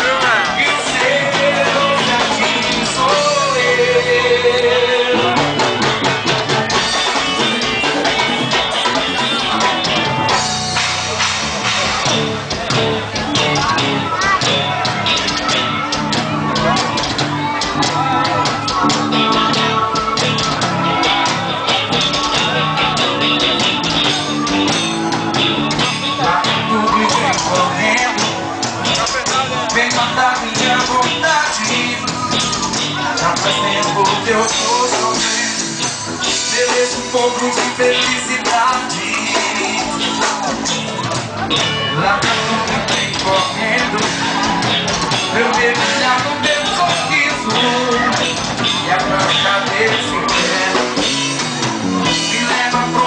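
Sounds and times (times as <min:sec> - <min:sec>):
person singing: 0:00.0 - 0:11.2, 0:13.1 - 0:53.0
band playing upbeat music: 0:00.0 - 0:53.0
drum beat: 0:00.0 - 0:53.0
guitar: 0:00.0 - 0:53.0.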